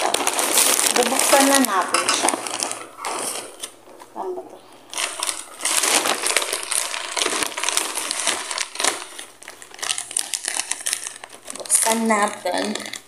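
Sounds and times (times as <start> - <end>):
plastic mailer bag crinkling: 0.0 - 3.9, 4.9 - 13.0.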